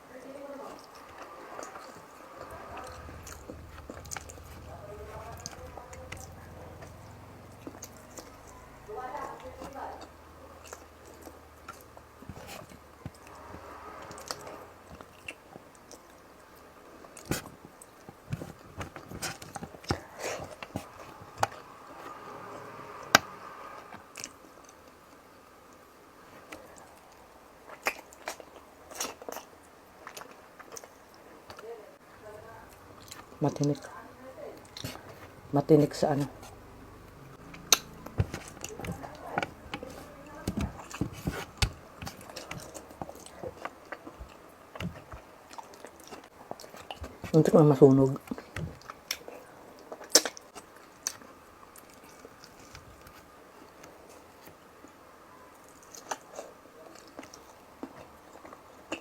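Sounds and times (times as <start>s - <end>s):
wet chewing and lip smacks: 0.7s - 21.8s, 26.4s - 31.6s, 34.6s - 47.3s, 48.1s - 59.0s.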